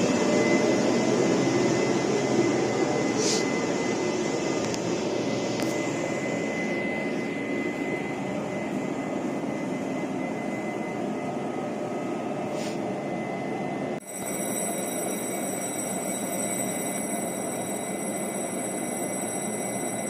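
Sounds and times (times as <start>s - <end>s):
train rumble with high tone: 0.0s - 20.0s.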